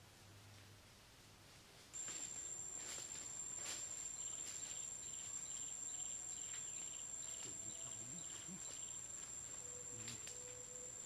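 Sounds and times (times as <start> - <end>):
insects high-pitched whine: 2.0 - 11.0
insects rapid chirps: 2.0 - 11.0.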